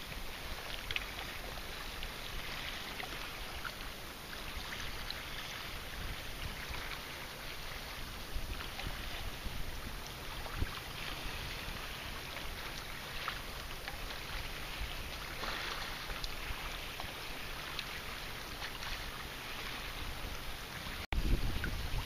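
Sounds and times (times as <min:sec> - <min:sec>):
small water drips and splashes: 0:00.0 - 0:22.0
water lapping against rocks: 0:00.0 - 0:22.0
wind rumble on microphone: 0:00.0 - 0:22.0.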